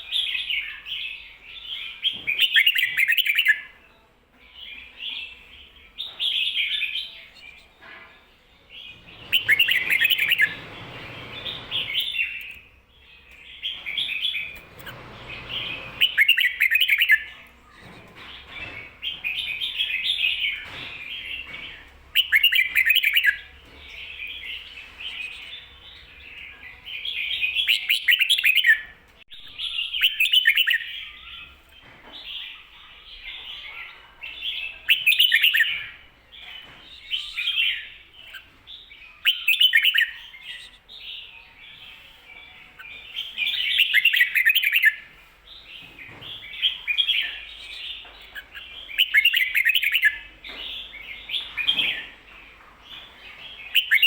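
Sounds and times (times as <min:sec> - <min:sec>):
bird chirping song phrases: 0:00.0 - 0:54.0.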